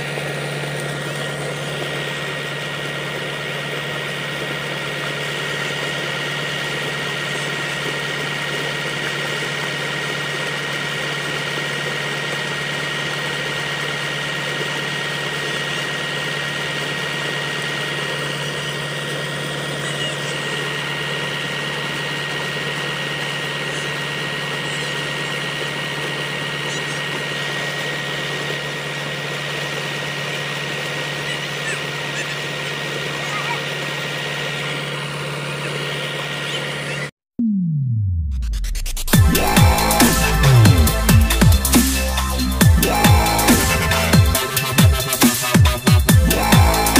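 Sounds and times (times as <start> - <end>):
tractor engine running: 0.0 - 37.1, 38.1 - 46.9.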